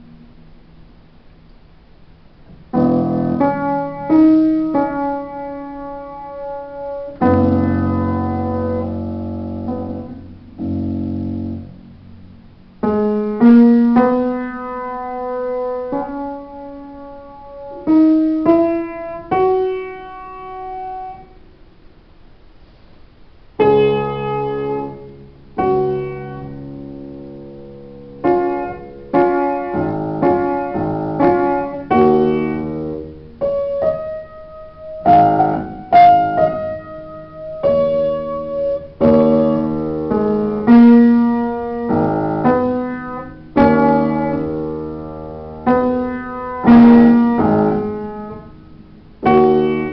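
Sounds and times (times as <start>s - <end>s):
upright piano playing: 2.4s - 21.5s, 23.6s - 49.9s.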